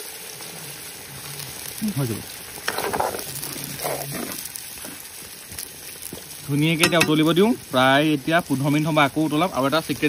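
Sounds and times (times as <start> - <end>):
water hissing in hot wok: 0.0 - 10.0.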